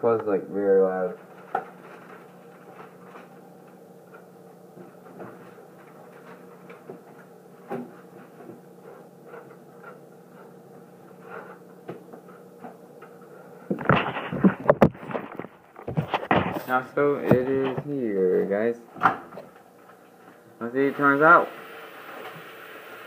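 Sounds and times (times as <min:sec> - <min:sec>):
steady low hum: 0:00.0 - 0:21.2.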